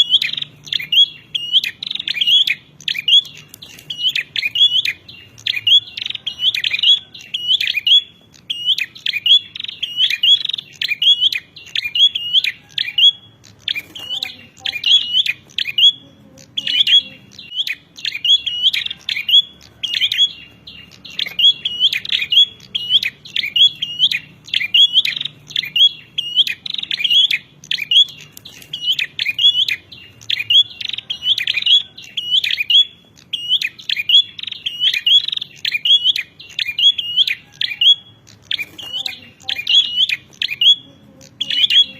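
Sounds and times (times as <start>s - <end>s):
bird chirping: 0.0s - 41.9s.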